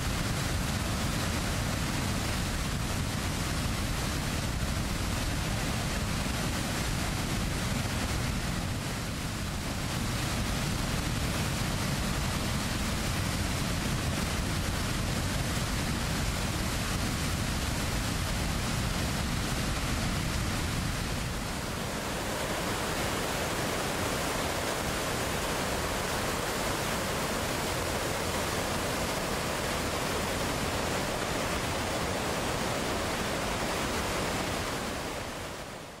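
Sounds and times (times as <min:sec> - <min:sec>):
waterfall rushing: 0:00.1 - 0:36.0
stream tumbling over rocks: 0:01.1 - 0:35.7.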